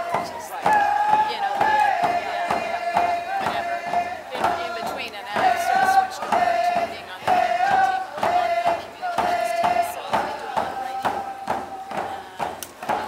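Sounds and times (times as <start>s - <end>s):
group chanting in unison: 0.0s - 13.0s
hand drums beating: 0.0s - 13.0s.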